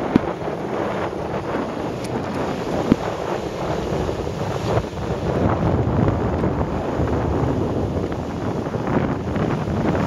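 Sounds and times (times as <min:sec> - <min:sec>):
jet ski engine: 0:00.0 - 0:10.0
wind buffeting microphone: 0:00.0 - 0:10.0.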